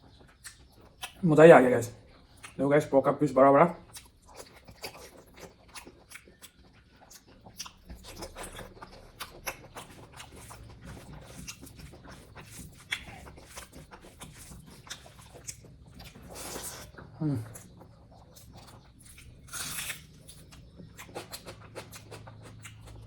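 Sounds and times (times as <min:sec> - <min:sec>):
close chewing with wet smacks: 0:00.0 - 0:23.0.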